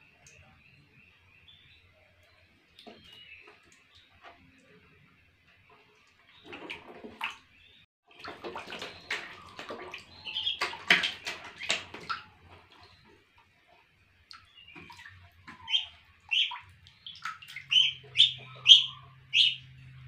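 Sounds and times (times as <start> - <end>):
water splashing in plastic tub: 2.6 - 20.0.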